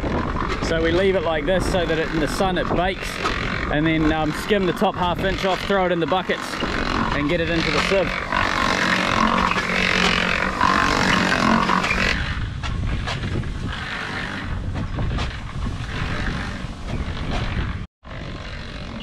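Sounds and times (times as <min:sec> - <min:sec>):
wind on the microphone: 0:00.0 - 0:09.4, 0:11.1 - 0:19.0
cement mixer motor hum: 0:00.0 - 0:17.8.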